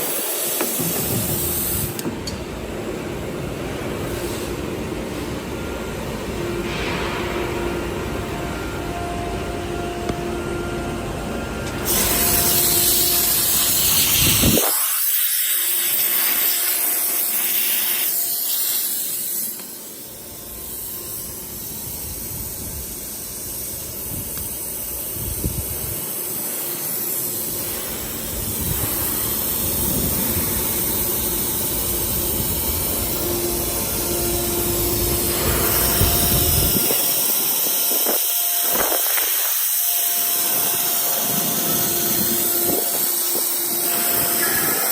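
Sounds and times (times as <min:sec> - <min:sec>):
cnc router spindle whine: 0:05.5 - 0:44.9.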